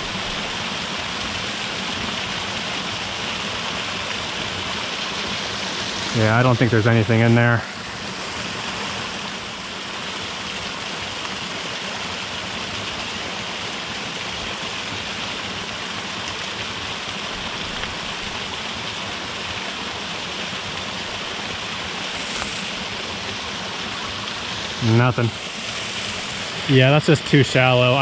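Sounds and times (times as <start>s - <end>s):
creek running over rocks: 0.0s - 28.0s
water trickling into pool: 0.0s - 28.0s.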